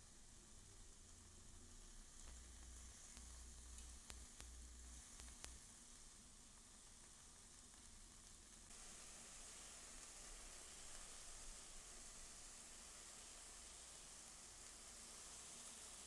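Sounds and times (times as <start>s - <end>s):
meat sizzling on grill: 0.0s - 16.0s.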